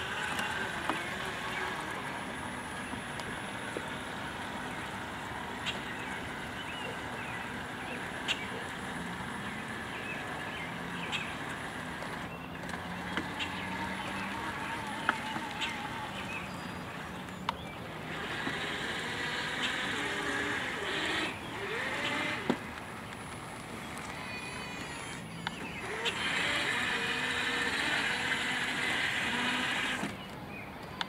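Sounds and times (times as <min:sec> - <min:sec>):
electric motor hum: 0:00.0 - 0:30.4.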